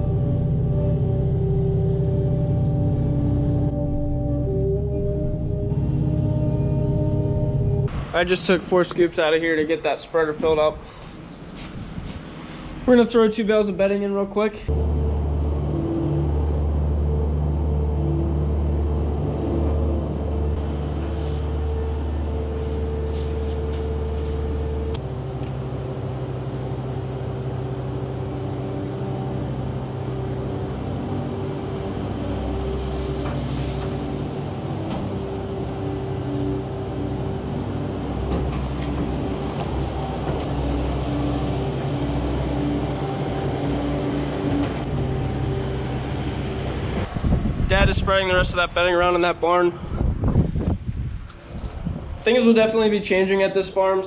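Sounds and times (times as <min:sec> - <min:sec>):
diesel engine running: 0:00.0 - 0:09.8, 0:14.7 - 0:52.0.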